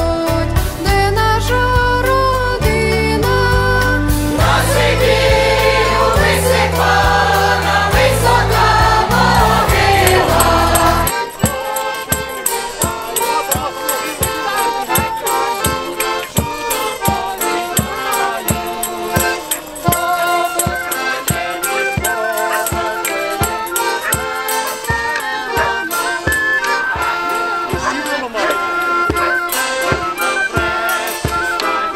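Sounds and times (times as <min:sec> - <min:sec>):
accordion violin and drum folk band: 0:00.0 - 0:31.9
group singing a carol: 0:03.0 - 0:31.9.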